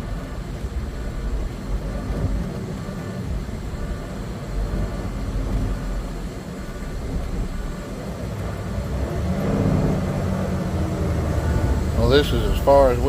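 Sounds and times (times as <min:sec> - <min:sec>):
road rumble: 0:00.0 - 0:13.0
truck diesel engine drone: 0:00.0 - 0:13.0.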